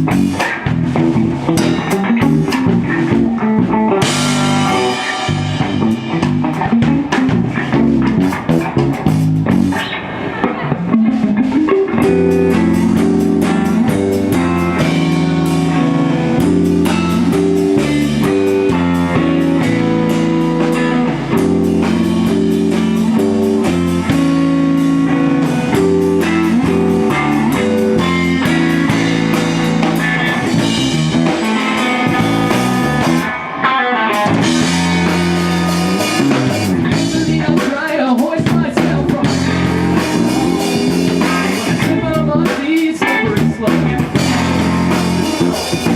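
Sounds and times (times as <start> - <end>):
rock band playing: 0.0 - 45.9.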